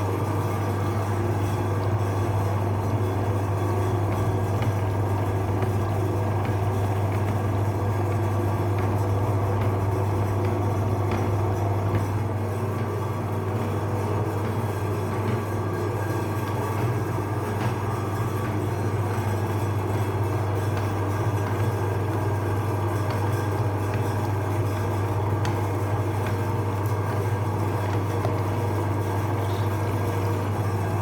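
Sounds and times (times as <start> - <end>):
electric meat grinder humming: 0.0 - 31.0.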